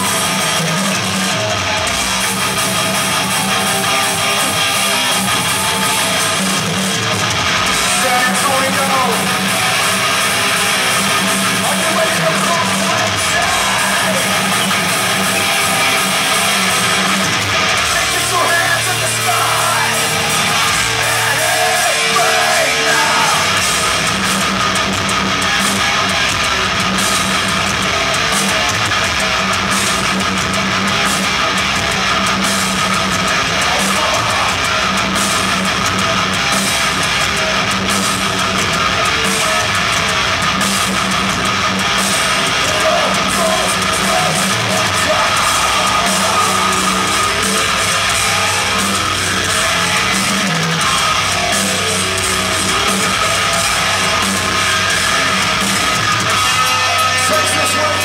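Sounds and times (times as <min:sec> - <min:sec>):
distorted electric guitars: 0:00.0 - 0:58.0
drums: 0:00.0 - 0:58.0.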